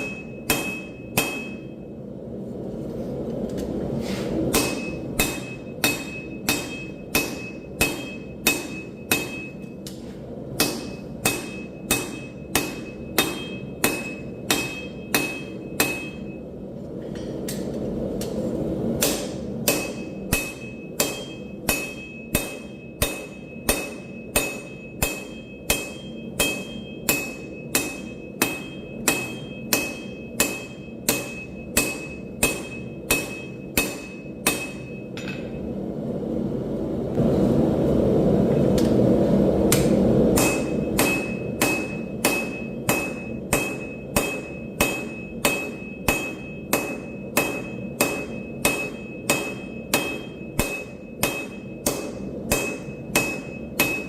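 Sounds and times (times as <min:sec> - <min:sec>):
hammer blows on anvil: 0:00.0 - 0:01.9, 0:04.5 - 0:16.5, 0:19.0 - 0:35.7, 0:39.7 - 0:54.0.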